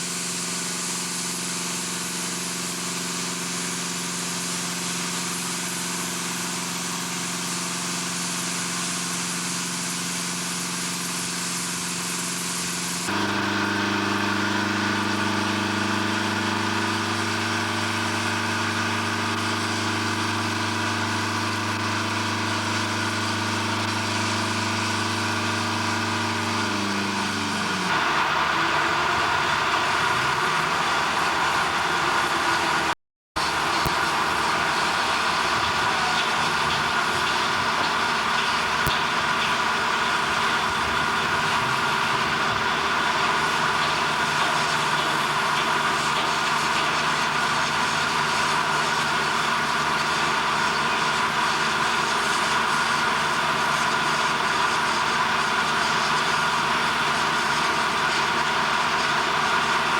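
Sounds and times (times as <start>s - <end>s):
rough noisy machine sound: 0.0s - 59.9s
heavy machinery hum: 10.8s - 59.9s.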